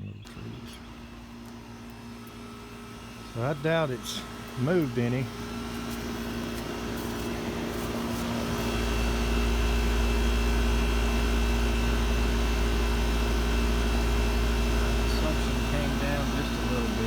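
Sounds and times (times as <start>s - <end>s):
compressor hum: 0.0s - 17.0s
condenser fan whoosh: 0.2s - 17.0s.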